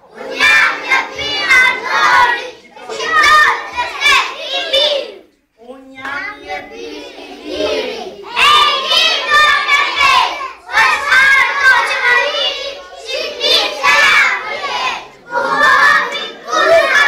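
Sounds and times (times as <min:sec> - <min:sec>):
children chanting into a microphone: 0:00.0 - 0:05.2, 0:06.0 - 0:17.0.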